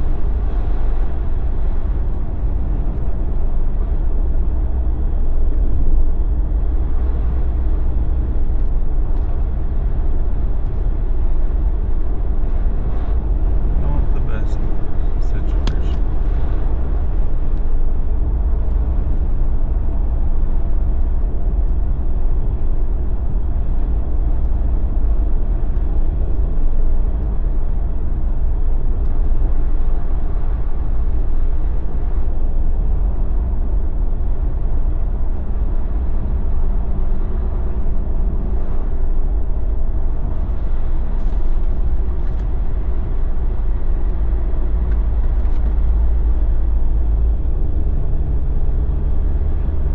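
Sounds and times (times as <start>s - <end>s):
vehicle engine and tyre rumble: 0.0s - 49.9s.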